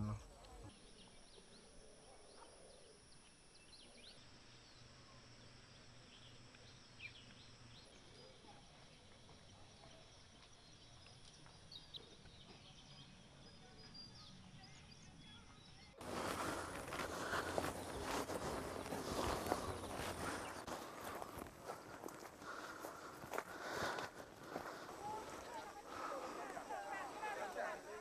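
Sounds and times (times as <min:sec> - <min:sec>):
faint bird chirps: 0:00.0 - 0:23.1.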